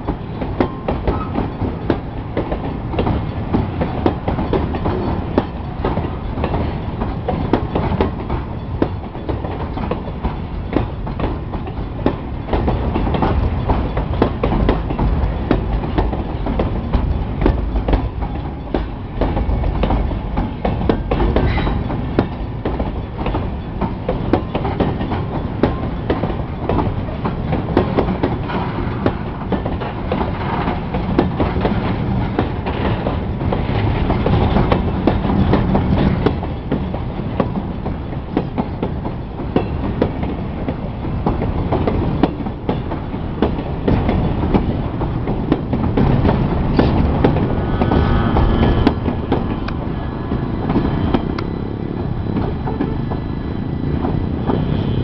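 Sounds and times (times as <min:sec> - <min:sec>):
train wheels clattering over rail joints: 0:00.0 - 0:55.0.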